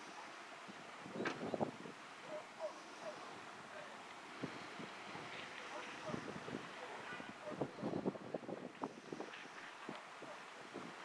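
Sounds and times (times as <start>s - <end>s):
wind buffeting microphone: 0.6s - 11.0s.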